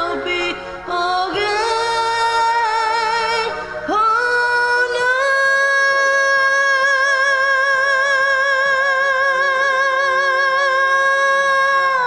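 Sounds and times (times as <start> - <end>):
quiet backing music: 0.0 - 11.6.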